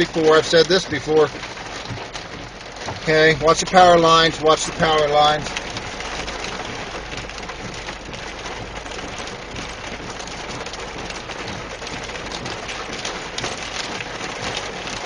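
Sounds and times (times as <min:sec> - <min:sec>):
heavy rain pattering: 0:00.0 - 0:15.0.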